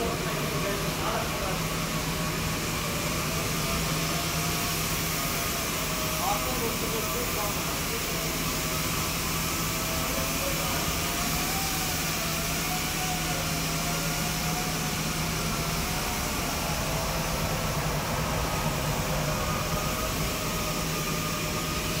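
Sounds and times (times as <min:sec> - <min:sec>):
machine motor hum with whine: 0:00.0 - 0:22.0.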